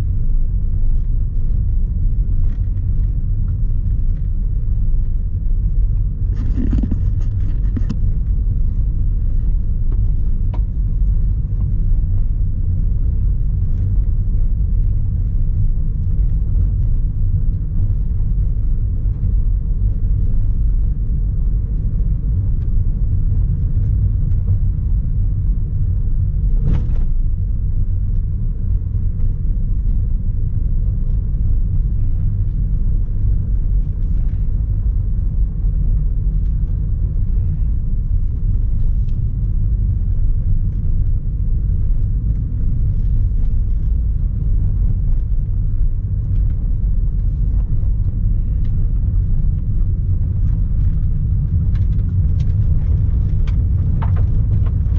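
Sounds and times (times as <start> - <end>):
car rumbling on gravel: 0.0 - 54.9.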